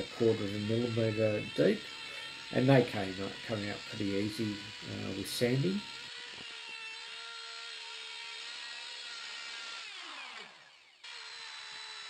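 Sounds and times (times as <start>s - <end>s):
electric router whining: 0.0s - 12.0s.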